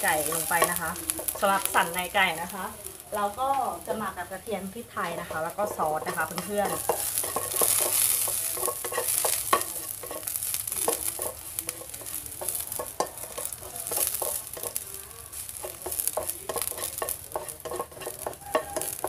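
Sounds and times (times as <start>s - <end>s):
spatula scraping and tapping pan: 0.0s - 2.8s, 4.7s - 19.0s
garlic sizzling in hot oil: 0.0s - 19.0s.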